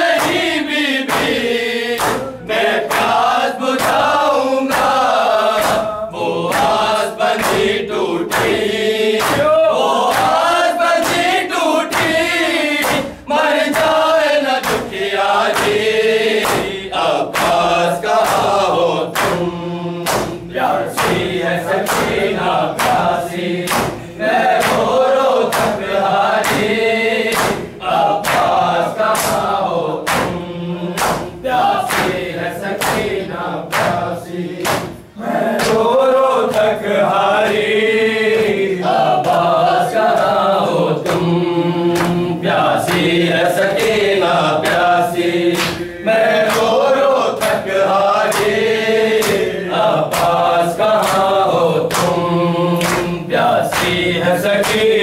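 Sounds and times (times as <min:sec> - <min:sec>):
men chanting: 0:00.0 - 0:55.0
hands slapping chests: 0:00.1 - 0:36.8, 0:38.3 - 0:48.6, 0:49.2 - 0:55.0.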